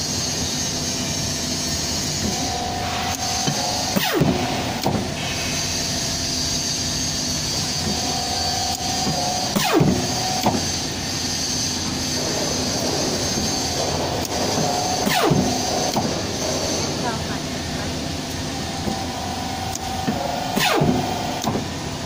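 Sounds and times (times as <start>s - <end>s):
hydraulic system humming: 0.0s - 22.0s.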